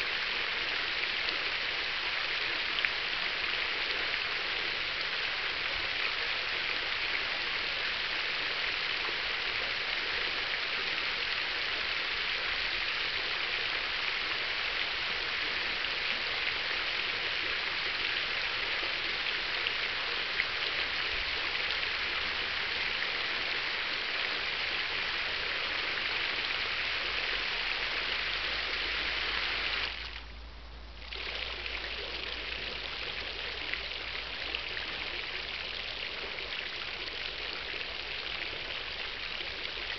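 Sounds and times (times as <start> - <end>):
fountain water splashing into basin: 0.0 - 30.3, 31.0 - 39.9.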